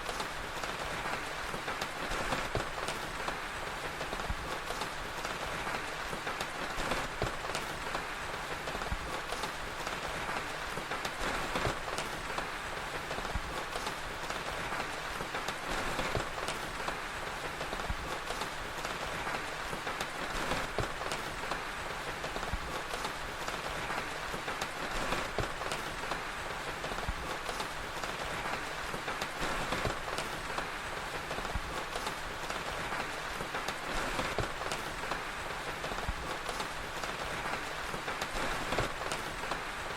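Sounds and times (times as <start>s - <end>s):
steady rain hissing: 0.0s - 39.9s
wood fire crackling: 0.0s - 39.9s.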